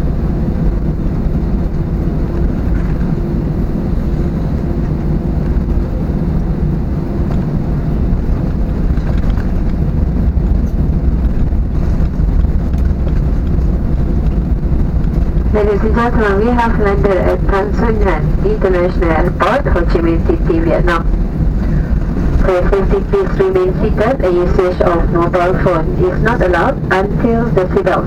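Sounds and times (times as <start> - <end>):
aircraft engine rumble: 0.0 - 28.0
faint steady hum: 0.0 - 28.0.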